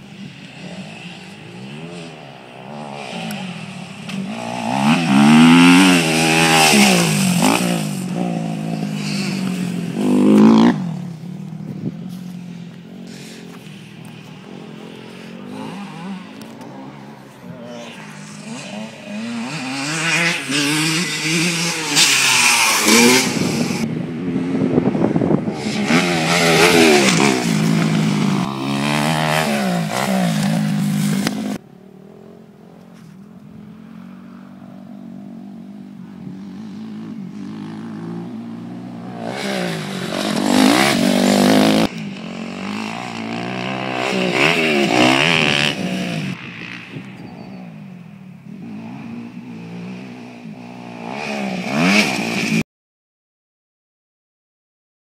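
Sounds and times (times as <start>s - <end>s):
dirt bike engine revving: 0.0s - 32.4s, 36.2s - 52.6s.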